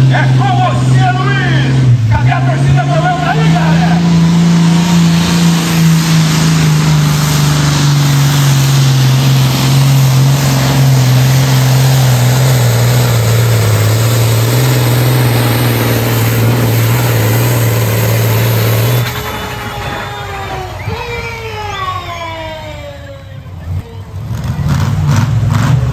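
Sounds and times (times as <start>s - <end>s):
diesel engine at full throttle: 0.0s - 25.9s.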